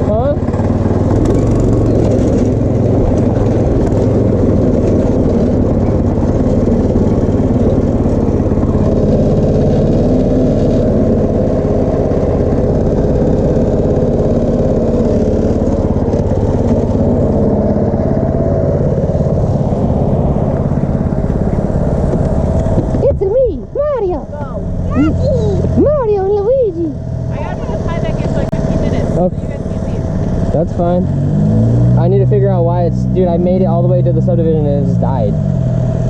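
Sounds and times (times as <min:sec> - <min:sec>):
go-kart engine running: 0:00.0 - 0:36.0.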